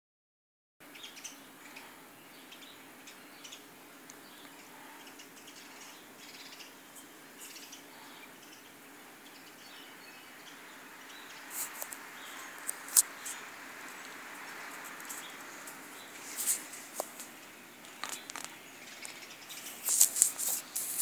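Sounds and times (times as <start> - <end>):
birds chirping faintly: 0.8 - 21.0
steady background hiss: 0.8 - 21.0.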